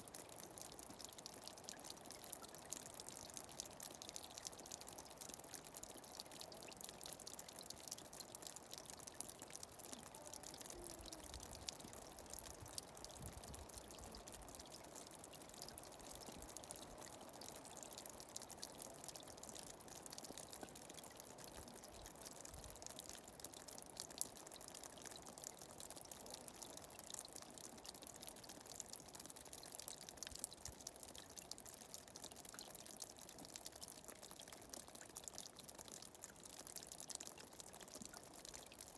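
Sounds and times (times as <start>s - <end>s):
soft running-water hiss: 0.0s - 38.9s
water trickling and dripping: 0.0s - 38.9s.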